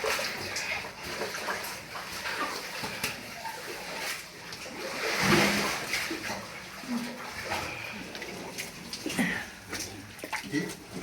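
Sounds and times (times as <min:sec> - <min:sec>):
water splashing in a stream: 0:00.0 - 0:11.0.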